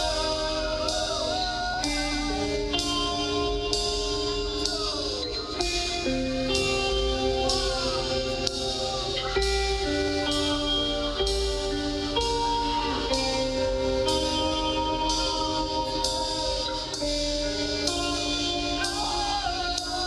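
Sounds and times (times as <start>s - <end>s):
drums: 0.0s - 20.0s
electric guitar sliding notes: 0.0s - 20.0s.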